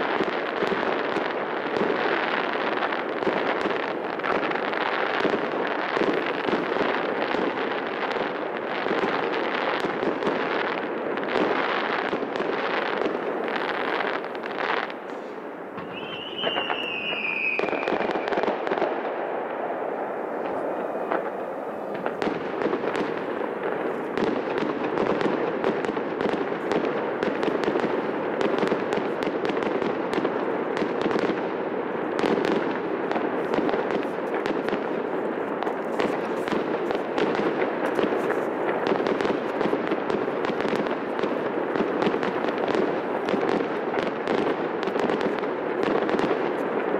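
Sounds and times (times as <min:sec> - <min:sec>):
fireworks bursting and crackling: 0:00.0 - 0:46.9
whistling firework: 0:00.0 - 0:46.9.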